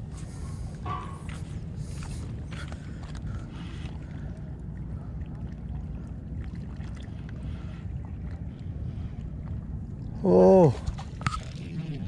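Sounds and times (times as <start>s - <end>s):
sea: 0.0s - 12.0s.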